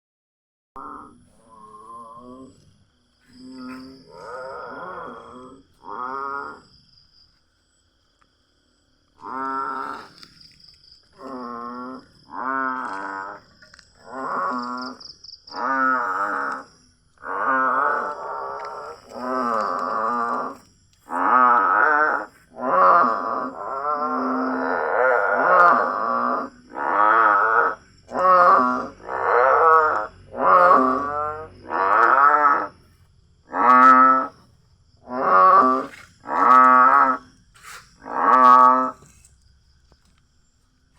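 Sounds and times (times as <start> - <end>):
loud drawn-out animal calls: 0.8 - 6.7, 9.1 - 39.3.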